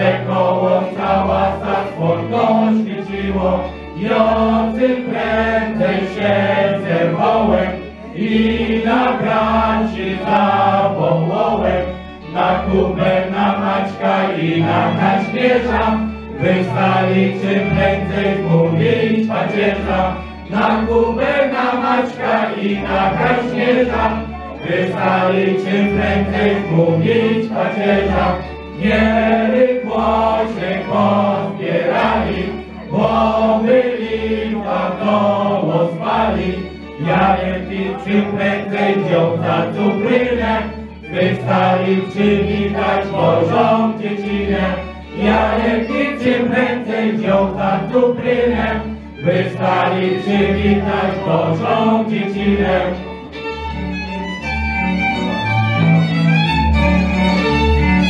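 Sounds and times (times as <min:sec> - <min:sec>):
group of people singing: 0:00.0 - 0:53.3.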